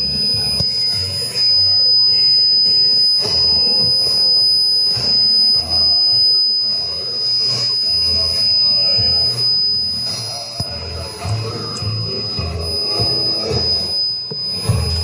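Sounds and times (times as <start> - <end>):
high-pitched radio whistle: 0.0 - 15.0
static crackles: 0.0 - 15.0.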